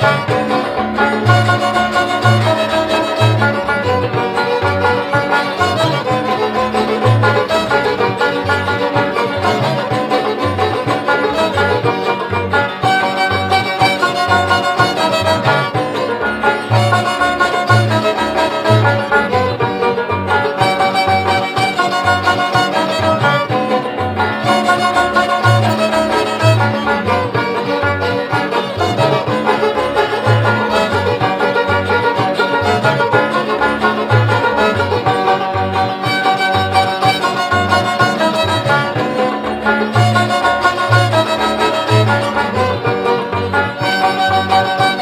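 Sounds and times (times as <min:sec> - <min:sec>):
fiddle-like melody: 0:00.0 - 0:45.0
upbeat instrumental music: 0:00.0 - 0:45.0.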